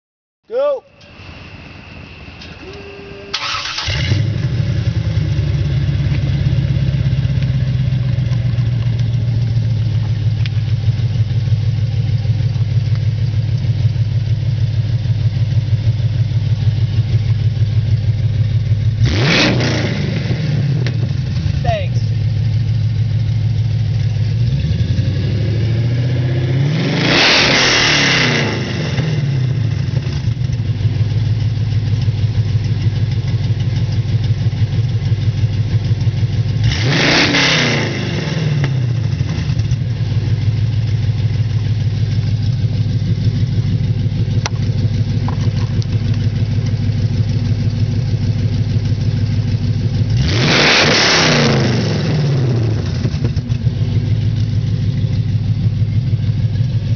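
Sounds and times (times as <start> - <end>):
car engine idling and revving: 1.0 - 56.9.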